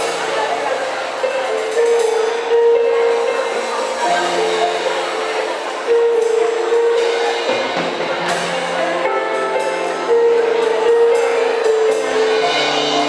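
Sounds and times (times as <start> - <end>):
drum kit with cymbals: 0.0 - 13.0.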